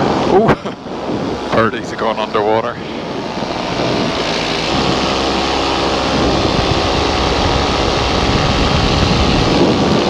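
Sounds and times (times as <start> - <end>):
air rushing: 0.0 - 10.0
paramotor engine drone: 0.0 - 10.0.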